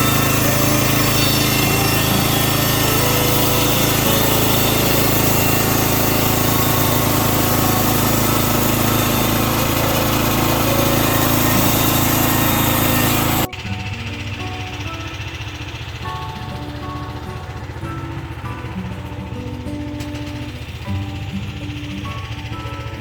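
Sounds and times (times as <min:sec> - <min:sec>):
sawing: 0:00.0 - 0:23.0
sawmill engine drone: 0:00.0 - 0:23.0.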